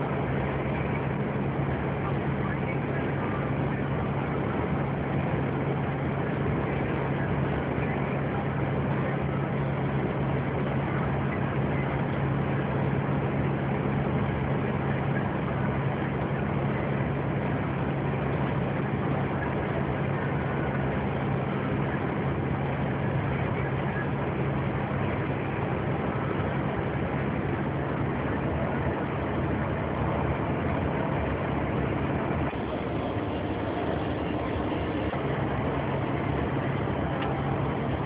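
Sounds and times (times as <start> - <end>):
vehicle engine hum and road noise: 0.0 - 38.0.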